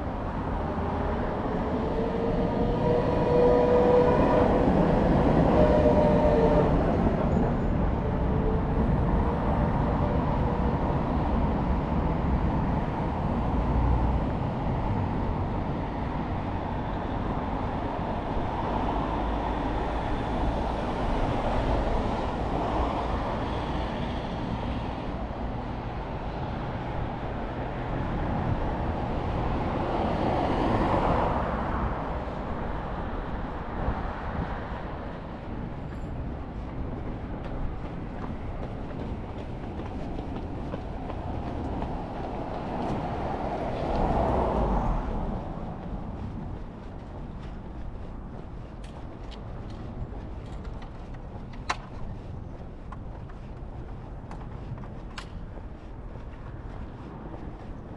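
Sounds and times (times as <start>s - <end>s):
city traffic rumble: 0.0s - 57.9s
rail vehicle whining: 0.0s - 57.9s.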